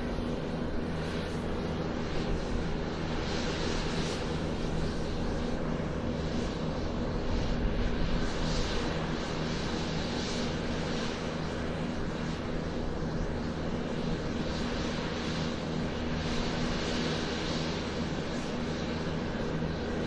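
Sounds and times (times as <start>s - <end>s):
airplane engine humming: 0.0s - 20.0s.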